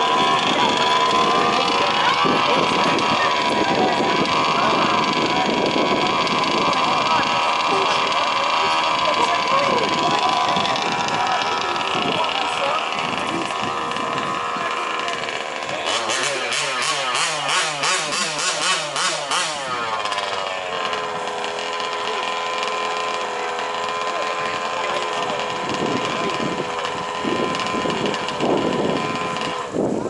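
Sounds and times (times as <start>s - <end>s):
rc truck engines running: 0.0s - 30.0s.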